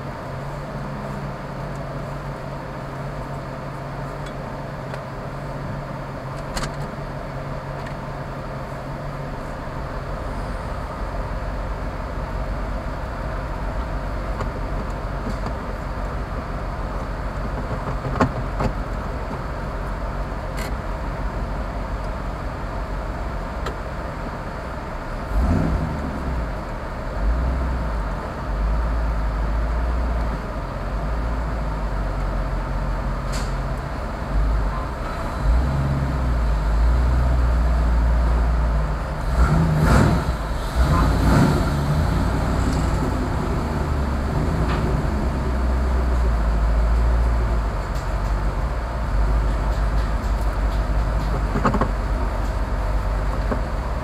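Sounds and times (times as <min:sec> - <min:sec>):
car engine drone from inside: 0:00.0 - 0:54.0.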